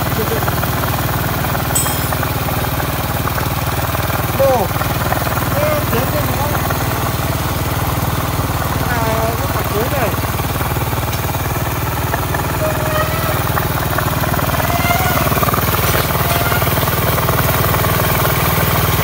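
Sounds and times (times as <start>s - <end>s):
air compressor pump pulsing: 0.0s - 19.0s
motorcycle engine idling: 0.0s - 19.0s.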